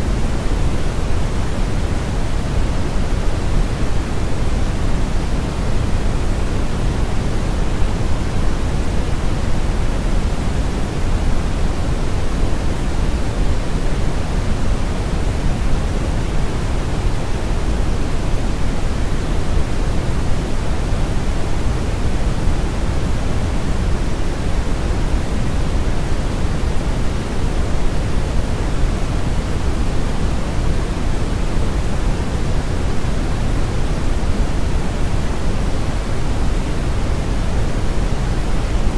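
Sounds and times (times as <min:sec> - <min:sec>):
steady brown noise: 0:00.0 - 0:38.9.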